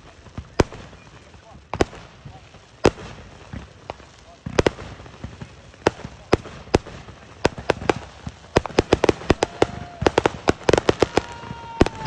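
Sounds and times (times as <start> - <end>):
fireworks bangs and crackling: 0.0 - 12.0
fireworks whistling: 0.0 - 12.0.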